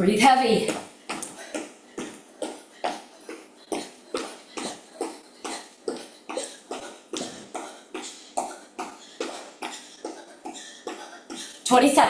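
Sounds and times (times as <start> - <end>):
person breathing hard: 0.9 - 11.7.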